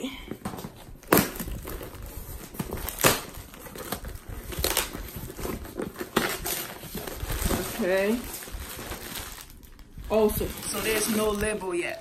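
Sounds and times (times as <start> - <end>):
cardboard rustling and crinkling: 0.3 - 12.0
cardboard and tape ripping: 0.5 - 11.6.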